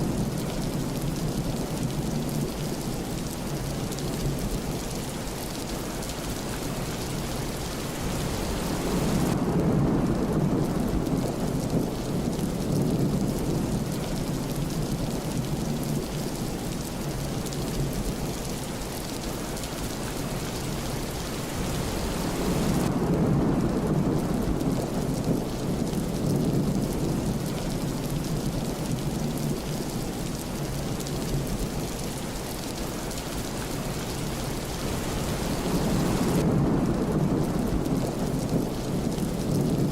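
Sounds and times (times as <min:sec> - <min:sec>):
low rolls of thunder: 0:00.0 - 0:39.9
steady rain: 0:00.0 - 0:39.9.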